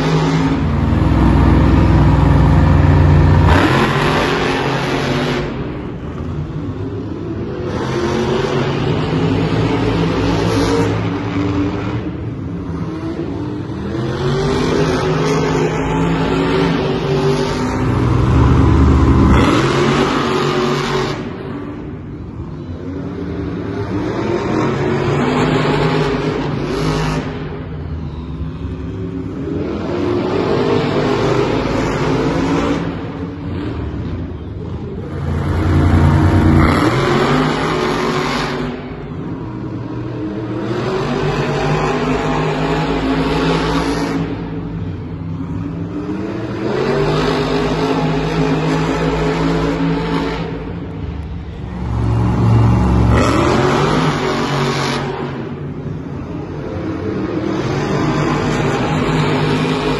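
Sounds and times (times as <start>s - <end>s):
monster truck engines revving: 0.0s - 59.9s.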